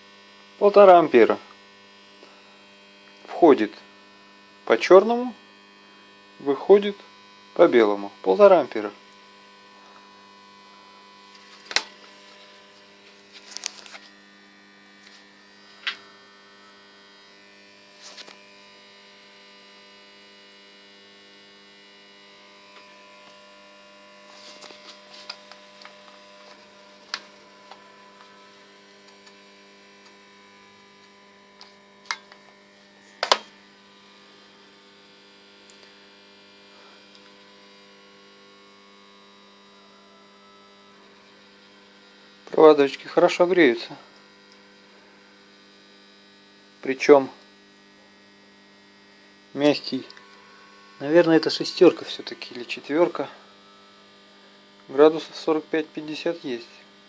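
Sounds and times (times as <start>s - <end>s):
transformer electrical hum: 0.0s - 57.0s.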